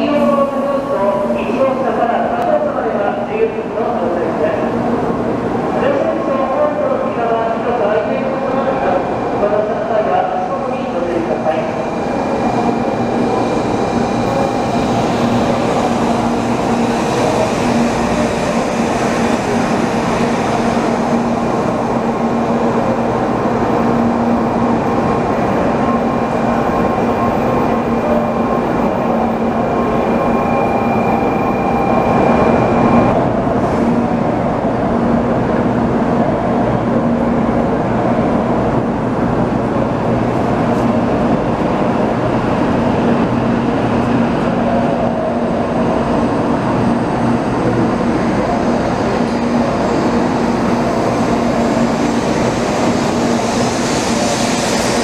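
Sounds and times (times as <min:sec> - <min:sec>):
train rushing past: 0:00.0 - 0:55.0.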